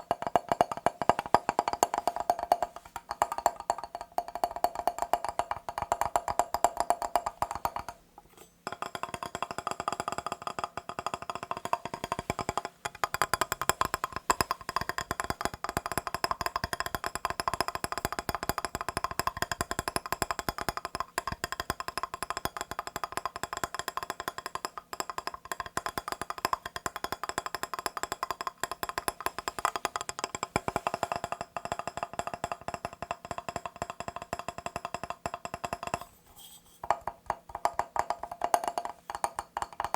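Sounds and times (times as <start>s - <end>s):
fast tapping on glass: 0.0s - 36.2s, 36.8s - 39.9s.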